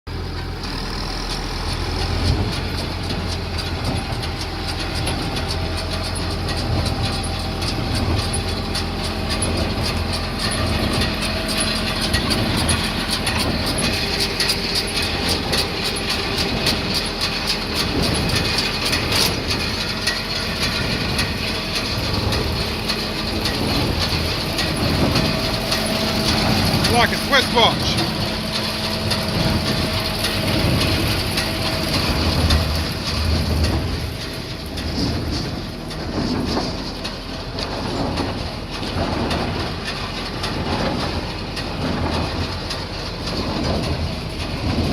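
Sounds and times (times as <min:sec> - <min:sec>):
tractor engine hum: 0:00.1 - 0:44.9
baler mechanism clattering: 0:00.3 - 0:44.9.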